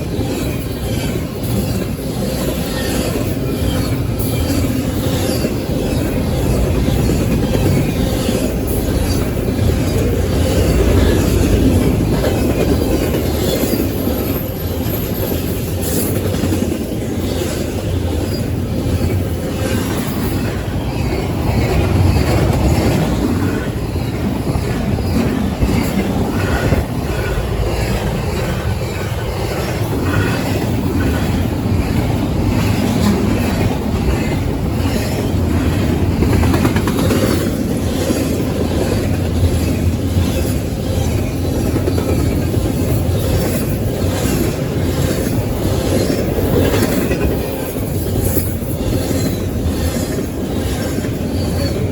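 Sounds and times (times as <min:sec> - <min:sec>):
train wheels rumbling on rails: 0:00.0 - 0:51.9
wheels clicking over rail joints: 0:00.0 - 0:51.9.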